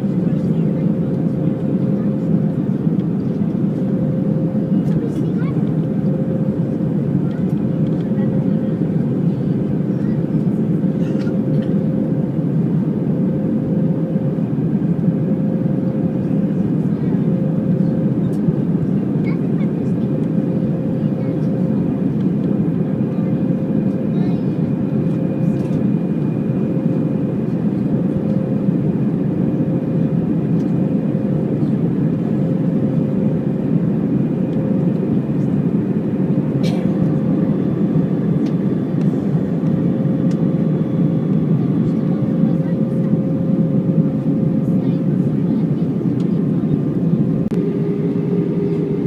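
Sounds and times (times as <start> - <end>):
aircraft cabin engine drone: 0.0 - 49.0.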